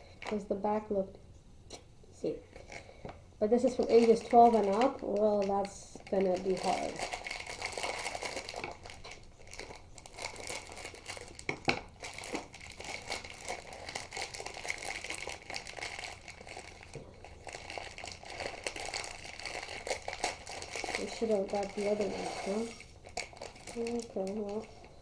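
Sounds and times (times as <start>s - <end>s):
packaging crinkling and rustling: 2.5s - 25.0s.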